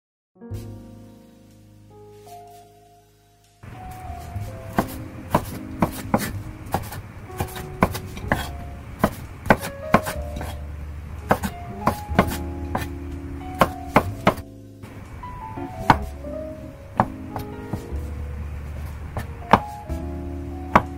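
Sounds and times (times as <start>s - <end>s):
soft background music: 0.4s - 20.9s.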